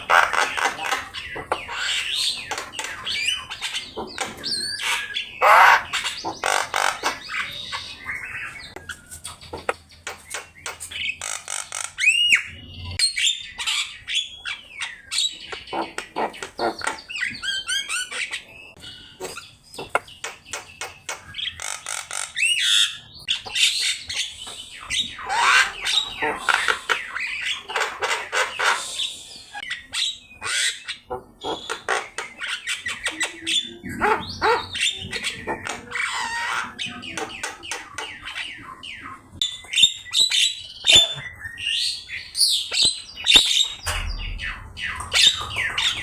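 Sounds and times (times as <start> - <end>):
myna bird singing: 0.0 - 46.0.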